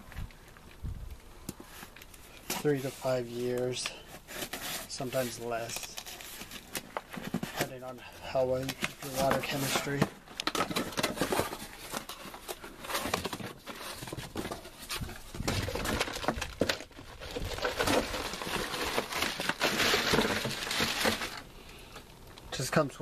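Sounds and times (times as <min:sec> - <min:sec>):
packaging crinkling and rustling: 0:00.0 - 0:22.3.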